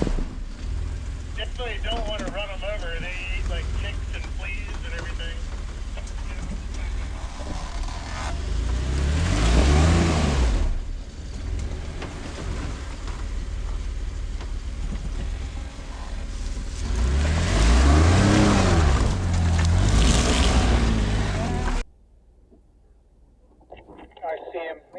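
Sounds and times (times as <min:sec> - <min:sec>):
engine rumbling and revving: 0:00.0 - 0:21.9.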